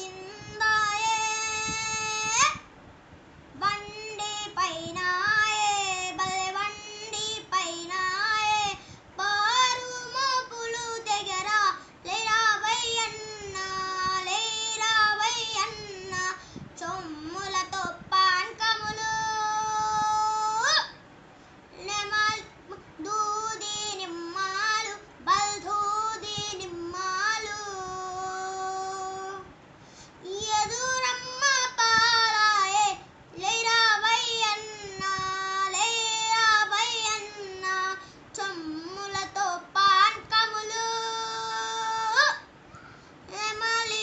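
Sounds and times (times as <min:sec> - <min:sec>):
boy singing unaccompanied: 0:00.0 - 0:02.7, 0:03.6 - 0:21.0, 0:21.7 - 0:29.6, 0:30.2 - 0:42.5, 0:43.3 - 0:44.0.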